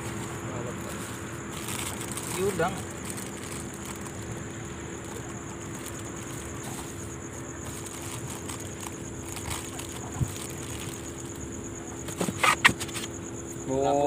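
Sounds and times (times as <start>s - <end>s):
distant machinery hum: 0.0s - 14.0s
pulsing insect trill: 0.0s - 14.0s.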